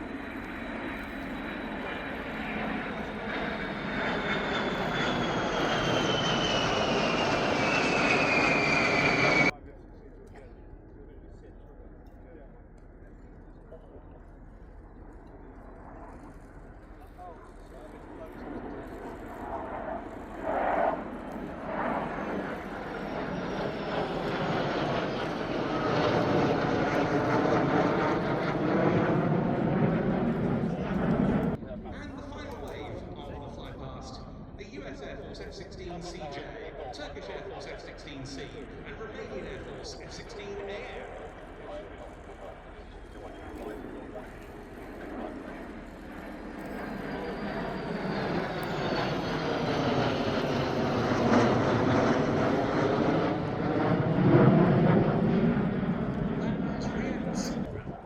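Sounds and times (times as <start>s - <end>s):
jet aircraft flying past: 0.0s - 9.6s, 15.0s - 58.0s.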